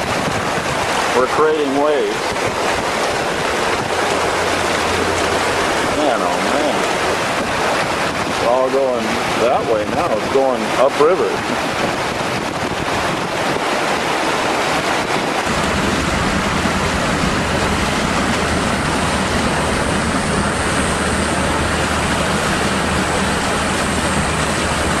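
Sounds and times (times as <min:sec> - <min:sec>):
engine hum: 0:00.0 - 0:09.6, 0:11.5 - 0:25.0
rushing water: 0:00.0 - 0:25.0.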